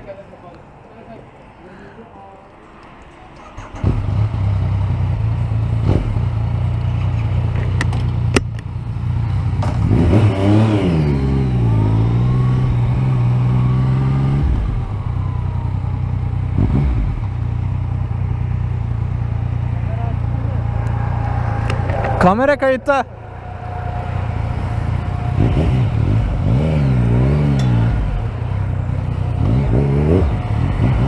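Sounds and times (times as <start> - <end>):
motorcycle engine idling and revving: 3.4 - 31.0.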